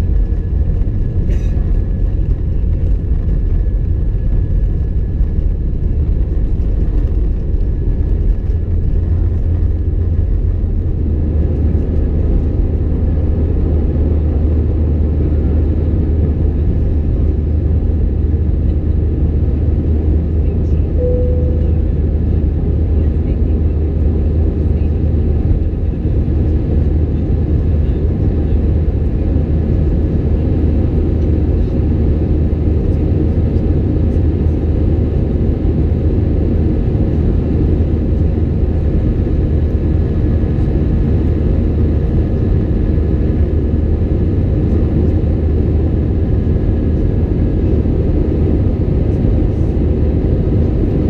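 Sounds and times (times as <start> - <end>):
jet cabin low rumble: 0.0 - 51.0.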